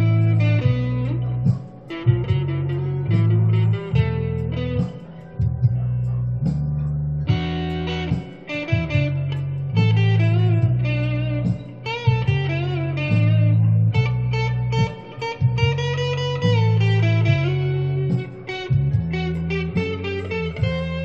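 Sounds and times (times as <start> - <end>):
electric guitar blues lead: 0.0 - 21.0
sustained low notes: 0.0 - 21.0.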